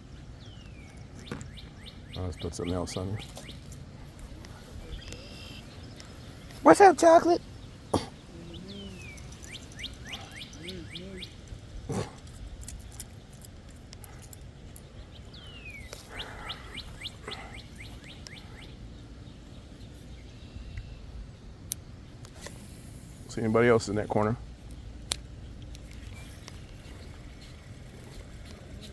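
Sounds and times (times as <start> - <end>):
songbird singing: 0.0 - 28.9.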